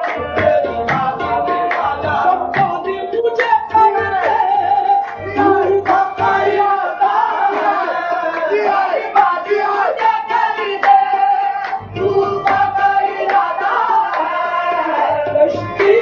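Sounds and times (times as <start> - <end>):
harmonium: 0.0 - 14.4
man singing: 0.0 - 16.0
rhythmic hand claps: 0.0 - 16.0.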